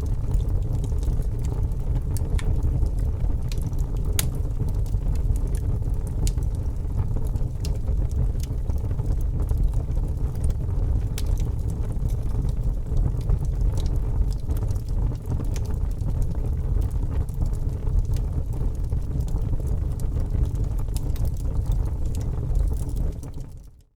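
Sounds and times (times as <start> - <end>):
fire burning: 0.0 - 23.9
fire crackles and pops: 0.0 - 23.9.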